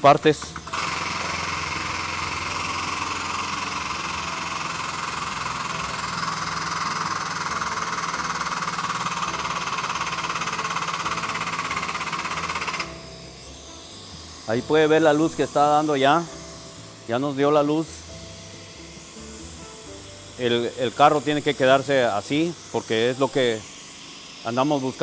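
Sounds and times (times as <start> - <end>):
hydraulic pump running: 0.0 - 25.0.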